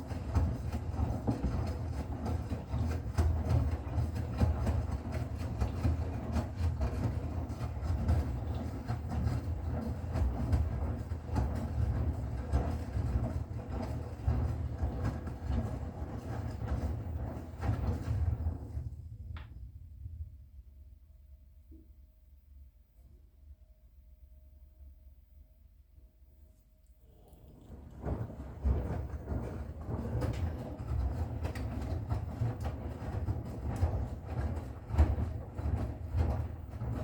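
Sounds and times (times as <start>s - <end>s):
washing machine drum rumbling: 0.0s - 20.2s, 27.4s - 37.0s.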